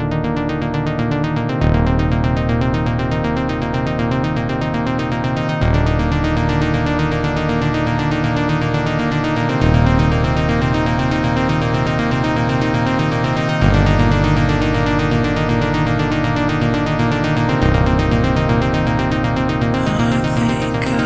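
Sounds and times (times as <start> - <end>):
synth bass: 0.0 - 21.0.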